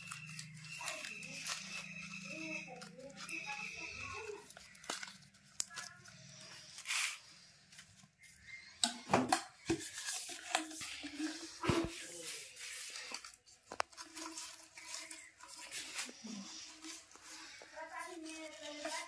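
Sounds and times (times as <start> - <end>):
plastic and leaves rustling: 0.0 - 8.8, 9.6 - 19.0.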